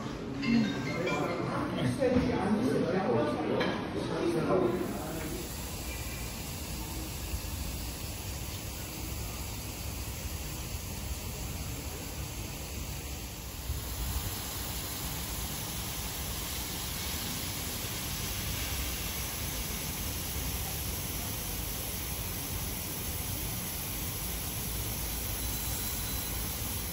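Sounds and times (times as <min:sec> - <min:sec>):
sprinkler water spray hiss: 0:04.8 - 0:26.9.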